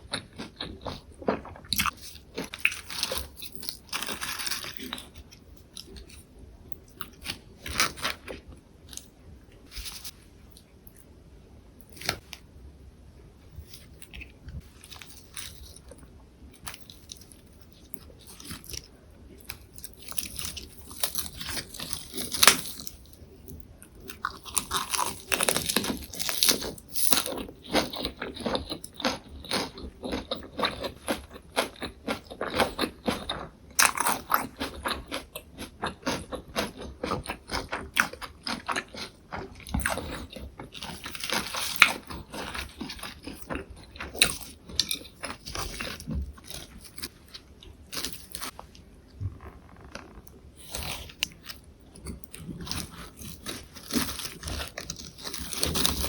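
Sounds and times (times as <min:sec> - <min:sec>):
crunching and chewing lettuce: 0:00.0 - 0:11.1, 0:13.5 - 0:56.0.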